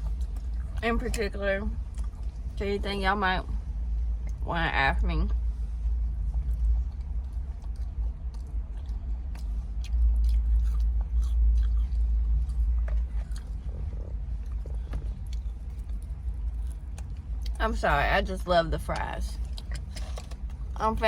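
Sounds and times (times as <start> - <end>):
chewing crunchy fries: 0.0 - 2.6, 5.3 - 17.6, 18.8 - 21.0
steady low rumble: 0.0 - 21.0.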